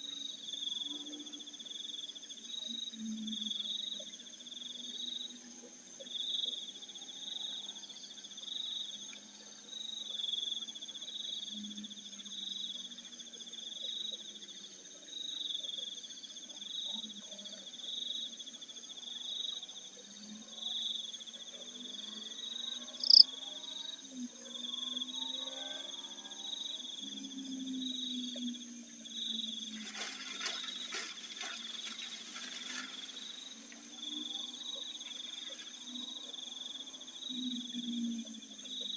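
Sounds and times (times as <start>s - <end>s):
crickets chirping: 0.0s - 38.9s
high insect drone: 0.0s - 38.9s.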